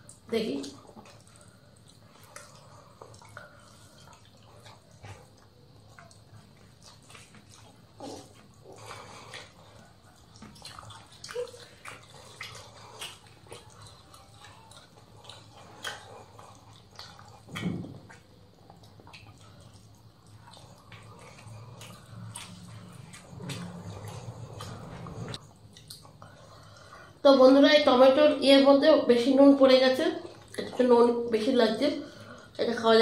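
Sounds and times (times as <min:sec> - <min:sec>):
chewing and lip smacks: 0:00.0 - 0:27.0, 0:30.1 - 0:31.0.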